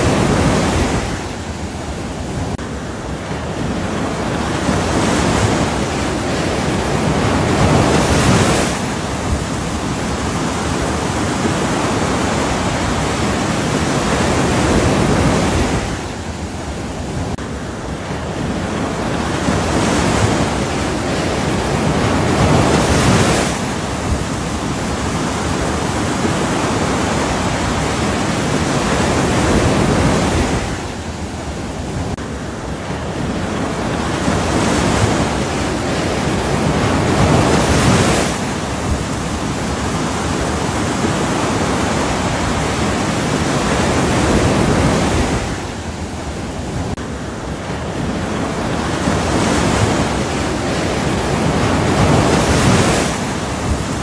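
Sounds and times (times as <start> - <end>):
waves washing in and out: 0.0 - 54.0.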